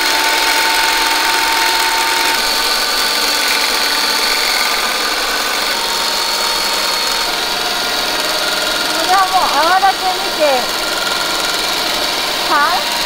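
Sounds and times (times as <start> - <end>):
stand mixer motor humming: 0.0 - 13.0
whisk beating liquid: 0.0 - 13.0.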